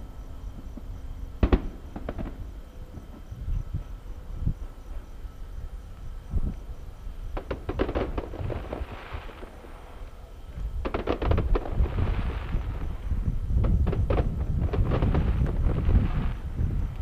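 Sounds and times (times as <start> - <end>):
fireworks bangs with hiss: 0.0 - 5.1, 5.9 - 17.0.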